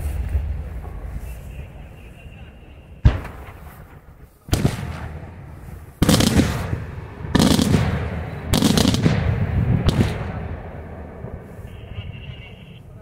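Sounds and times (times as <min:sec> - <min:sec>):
fireworks crackling: 0:00.0 - 0:13.0
rumbling echo: 0:00.0 - 0:13.0.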